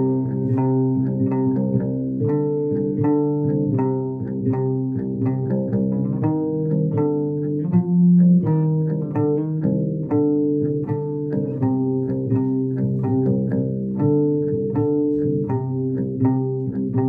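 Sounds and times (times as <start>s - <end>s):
electric bass: 0.0s - 17.0s
electric guitar: 0.0s - 17.0s.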